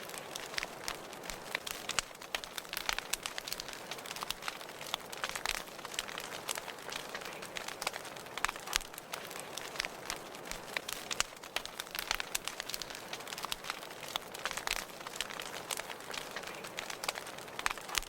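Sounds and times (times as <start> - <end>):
soft steady fire hiss: 0.0 - 18.0
wood fire crackling and popping: 0.0 - 18.0.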